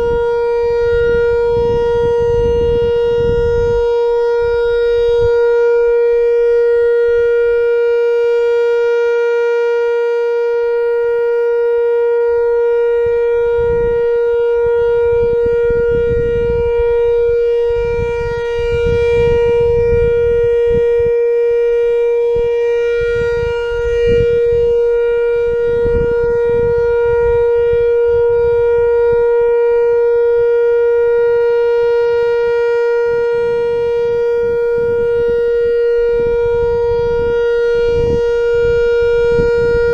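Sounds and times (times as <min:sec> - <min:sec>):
steady warning siren tone: 0:00.0 - 0:39.9.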